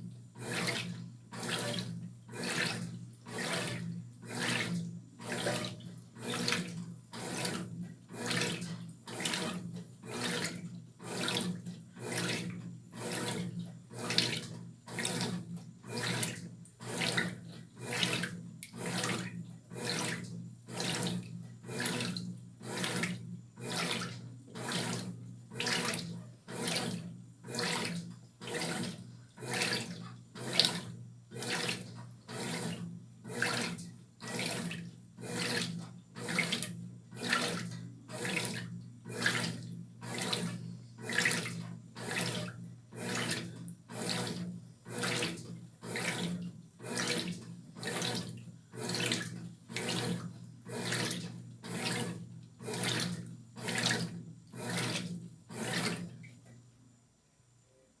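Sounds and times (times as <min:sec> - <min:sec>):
washing machine motor hum: 0:00.0 - 0:56.4
water sloshing in washing machine: 0:00.0 - 0:56.6.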